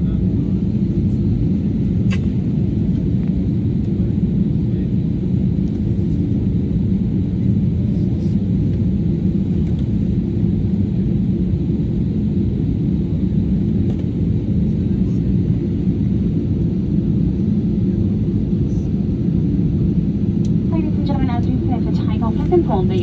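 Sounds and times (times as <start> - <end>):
aircraft cabin rumble: 0.0 - 23.0.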